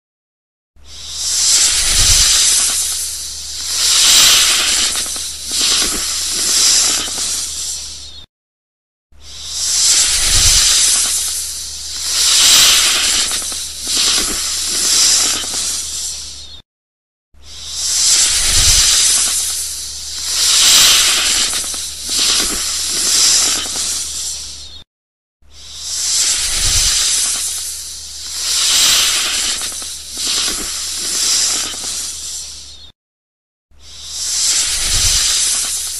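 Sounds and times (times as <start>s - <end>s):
snake hissing: 0.8s - 8.3s, 9.2s - 16.6s, 17.4s - 24.8s, 25.4s - 32.9s, 33.7s - 35.9s.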